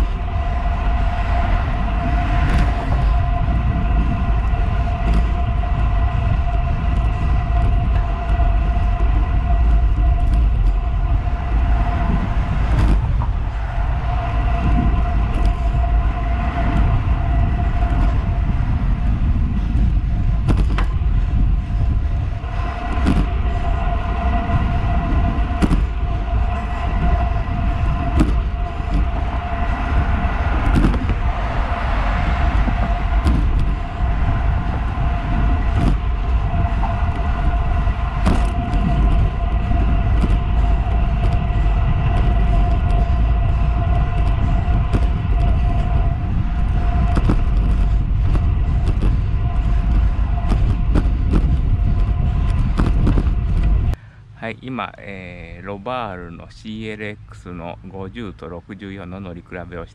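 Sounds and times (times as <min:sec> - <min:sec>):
bike tyre rumble: 0:00.0 - 0:59.9
steady whirring tone: 0:00.0 - 0:59.9
wind rushing over camera: 0:00.0 - 0:59.9
sharp ticks from road bumps: 0:02.1 - 0:24.5, 0:25.4 - 0:35.0, 0:35.7 - 0:53.9.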